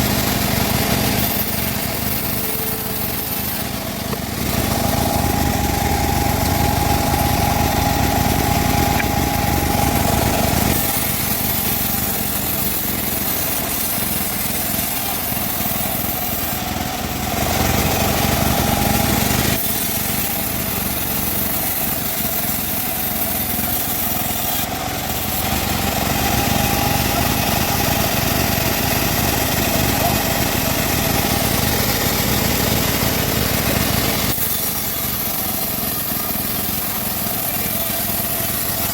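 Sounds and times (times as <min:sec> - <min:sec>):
engine-driven band saw cutting: 0:00.0 - 0:38.9.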